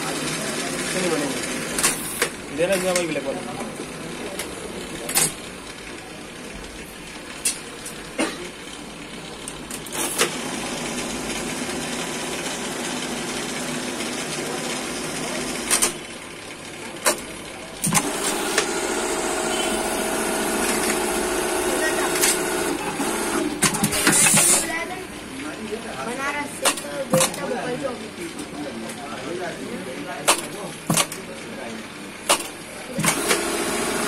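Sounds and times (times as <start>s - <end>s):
sewing machinery humming: 0.0s - 28.3s, 32.2s - 34.0s.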